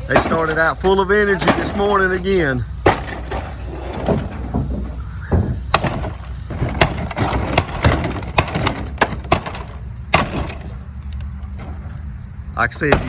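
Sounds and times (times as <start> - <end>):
heavy demolition blows: 0.0 - 13.0
wood cracking and splintering: 0.0 - 13.0.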